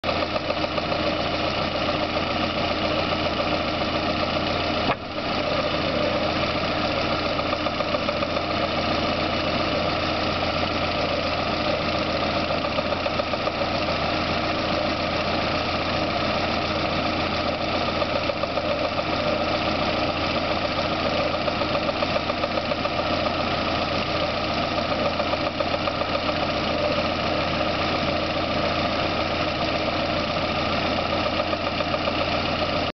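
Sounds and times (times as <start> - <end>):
car engine idling with knock: 0.0 - 32.9.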